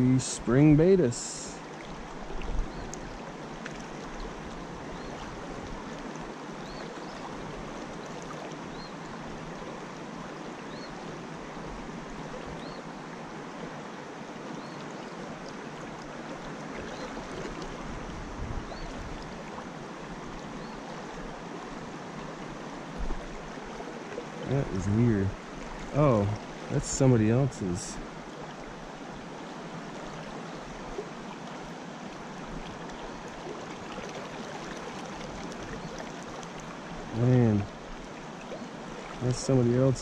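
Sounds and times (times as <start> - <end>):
creek water rushing: 0.0 - 40.0.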